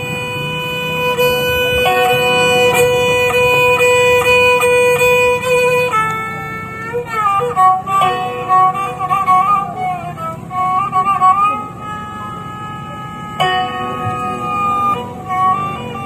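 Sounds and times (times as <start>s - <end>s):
bowed fiddle melody: 0.0s - 16.0s
plucked strings: 0.0s - 16.0s.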